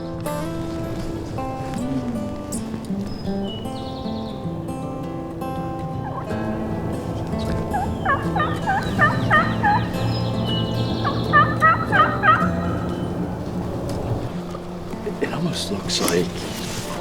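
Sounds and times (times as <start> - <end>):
wild turkey gobbling: 0.1 - 17.0.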